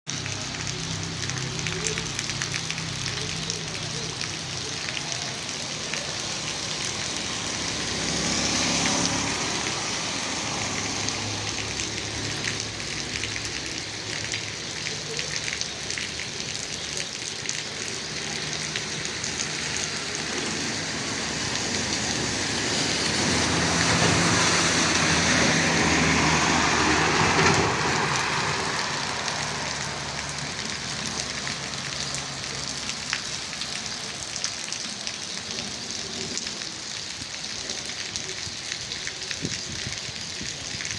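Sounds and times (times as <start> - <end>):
steady rain pattering: 0.1 - 40.9.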